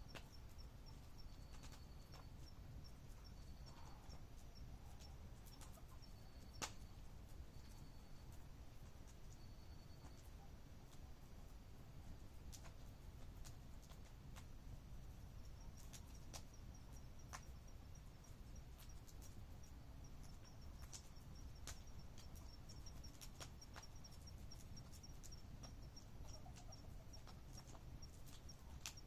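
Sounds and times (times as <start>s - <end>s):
insect chirping: 0.0s - 10.5s, 13.9s - 29.0s
campfire crackling: 0.0s - 29.0s.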